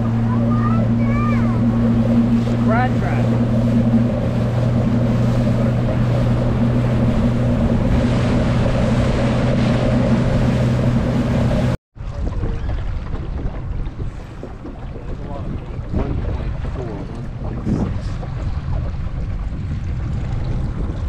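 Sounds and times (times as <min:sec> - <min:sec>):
boat motor running: 0:00.0 - 0:21.0
wind and water rushing: 0:00.0 - 0:21.0.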